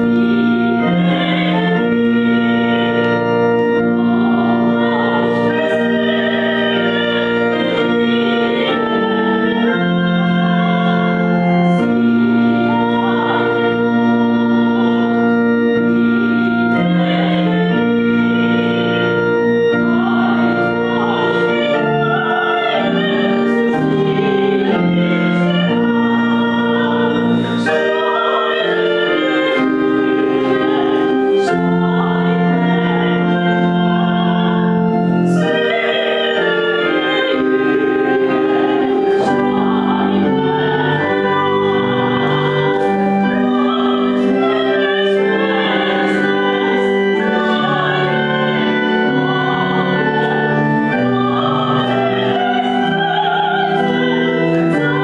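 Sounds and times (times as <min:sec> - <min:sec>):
organ chords: 0:00.0 - 0:55.0
person singing with vibrato: 0:00.0 - 0:55.0.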